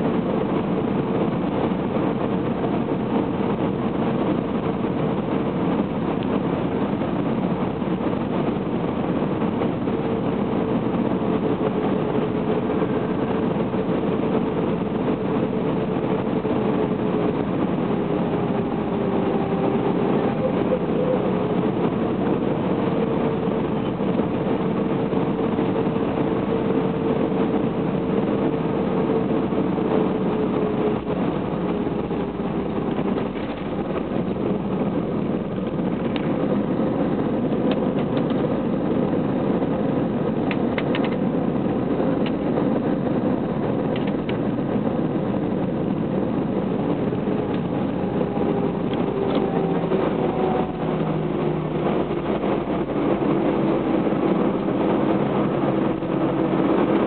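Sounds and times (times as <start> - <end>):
engine whine: 0.0 - 57.0
jet engine drone: 0.0 - 57.0.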